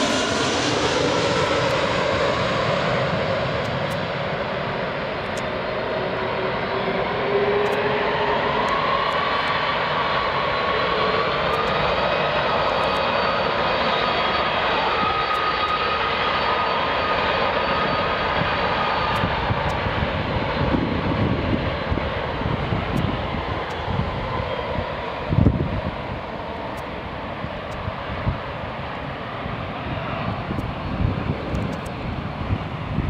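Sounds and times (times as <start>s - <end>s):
jet airliner roar: 0.0s - 33.0s.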